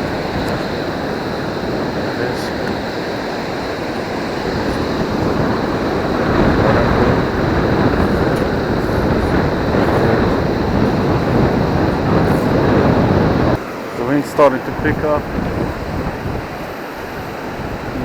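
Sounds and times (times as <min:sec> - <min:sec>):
surf breaking on a beach: 0:00.0 - 0:18.0.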